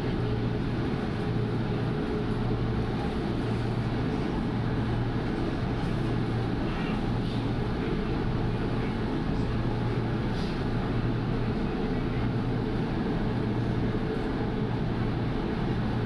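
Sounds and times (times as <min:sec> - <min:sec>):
train rumble on elevated track: 0:00.0 - 0:16.0.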